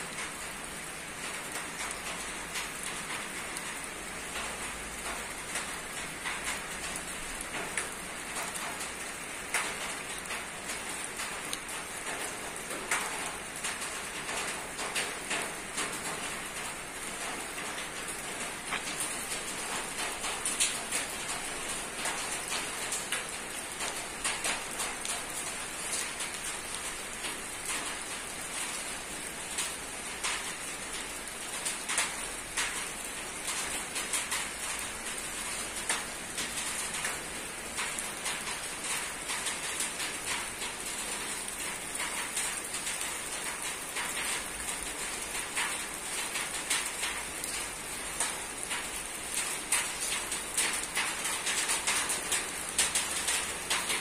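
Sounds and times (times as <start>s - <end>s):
rain falling on a roof: 0.0s - 54.0s.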